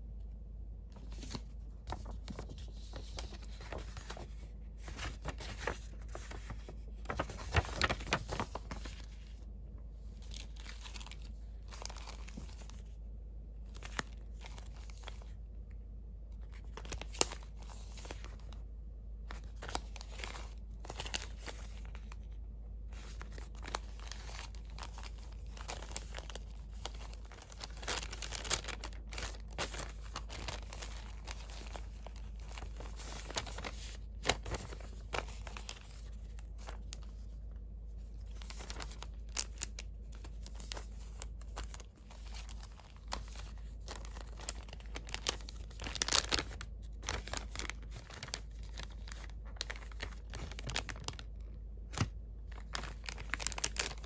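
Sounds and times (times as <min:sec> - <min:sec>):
paper and cellophane crinkling: 0:01.0 - 0:54.0.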